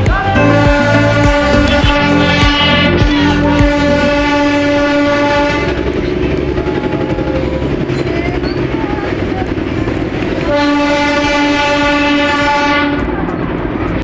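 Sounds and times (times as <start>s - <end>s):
train rumble and clatter: 0.0s - 14.0s
train horn blast: 0.4s - 13.2s.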